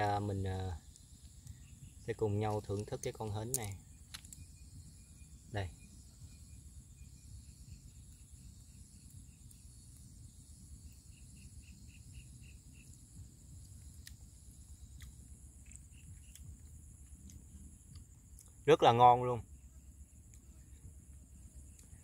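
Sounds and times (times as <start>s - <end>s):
insect buzzing: 0.0s - 18.4s.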